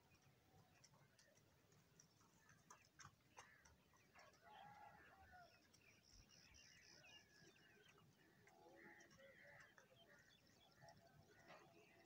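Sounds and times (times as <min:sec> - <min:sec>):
crows pecking on concrete: 0:00.0 - 0:12.0.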